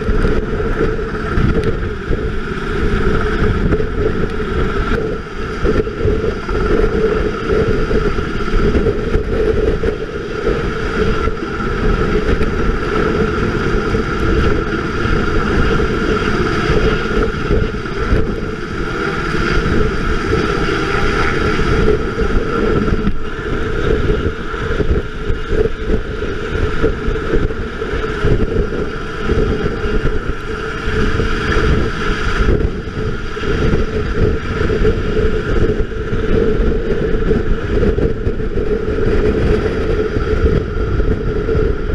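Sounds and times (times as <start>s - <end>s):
helicopter rotor and turbine: 0.0s - 41.9s
rotor wash wind on microphone: 0.0s - 41.9s.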